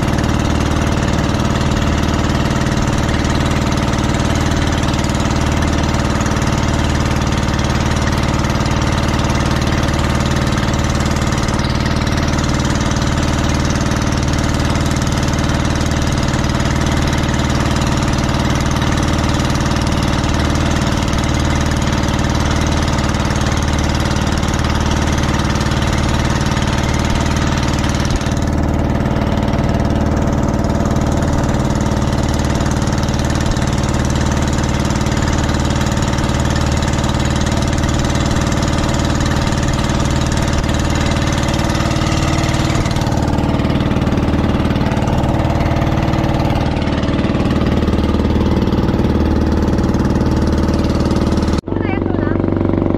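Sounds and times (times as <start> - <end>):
motor boat engine droning: 0.0 - 52.9.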